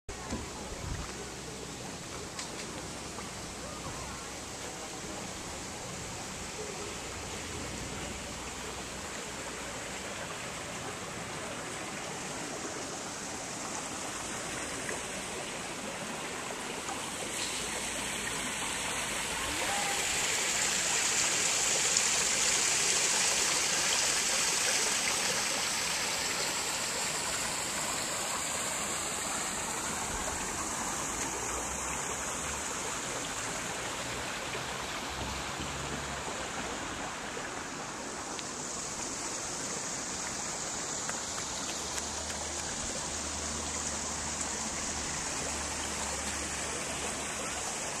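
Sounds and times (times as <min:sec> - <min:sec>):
steady rushing hissing noise: 0:00.1 - 0:48.0.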